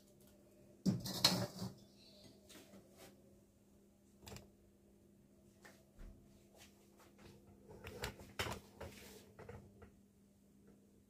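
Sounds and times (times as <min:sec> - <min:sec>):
low steady hum: 0:01.8 - 0:11.0.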